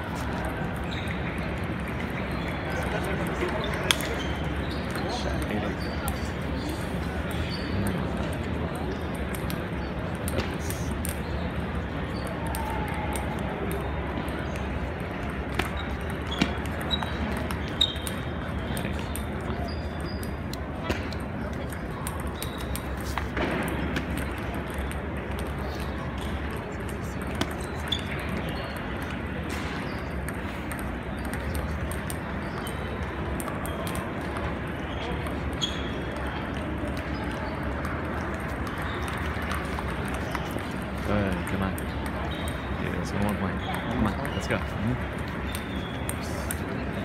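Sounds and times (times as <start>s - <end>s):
large hall background noise: 0.0s - 47.0s
table tennis balls clicking: 0.5s - 47.0s.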